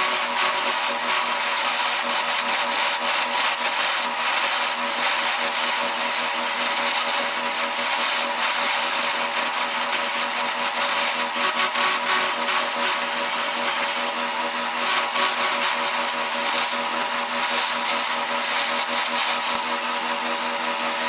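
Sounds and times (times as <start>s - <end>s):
lathe humming: 0.0s - 21.0s
turning tool scraping wood: 0.0s - 21.0s.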